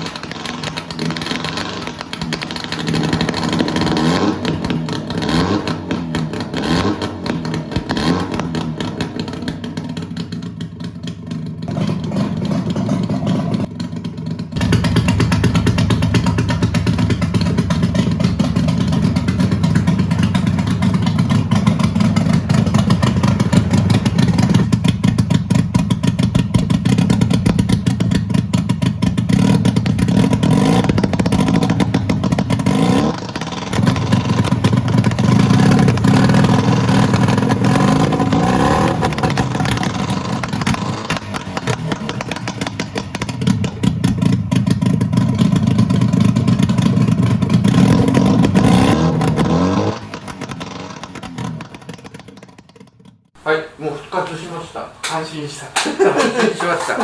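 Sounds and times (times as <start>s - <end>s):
two-stroke engine revving: 0.0s - 53.3s.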